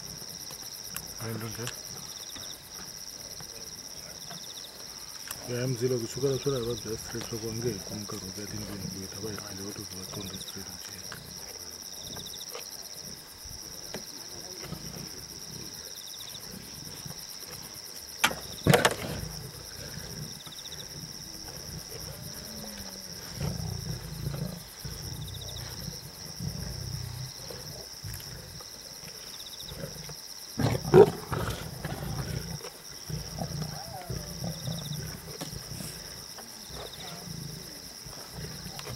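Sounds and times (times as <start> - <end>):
crickets chirping: 0.0 - 38.9
lions growling and snarling: 0.0 - 38.9.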